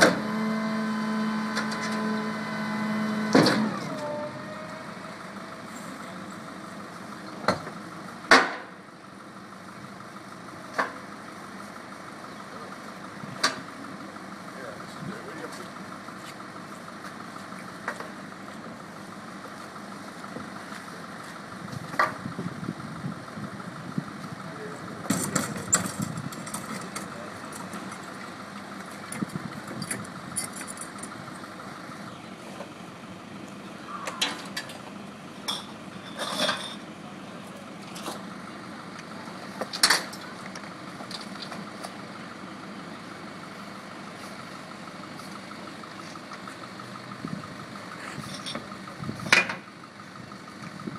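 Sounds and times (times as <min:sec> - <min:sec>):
garbage truck engine idling: 0:00.0 - 0:50.9.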